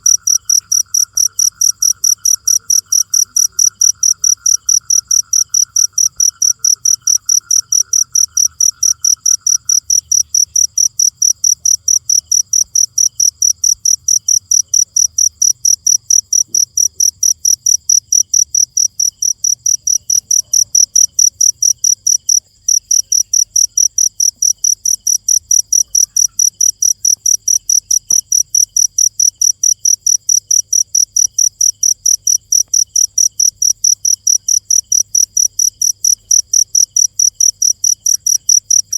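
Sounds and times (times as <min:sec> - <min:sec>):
cricket chirping: 0:00.0 - 0:38.9
low insect trill: 0:00.0 - 0:38.9.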